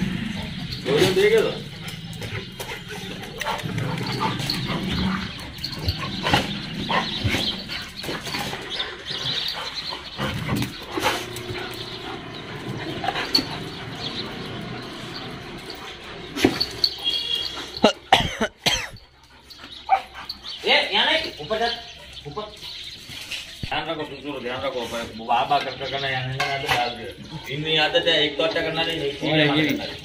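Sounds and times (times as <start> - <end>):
dogs barking: 0.0 - 30.0.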